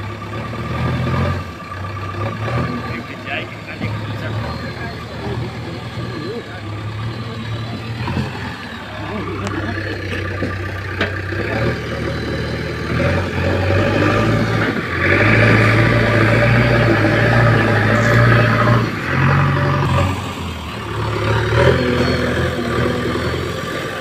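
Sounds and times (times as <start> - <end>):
diesel digger engine revving: 0.0 - 24.0.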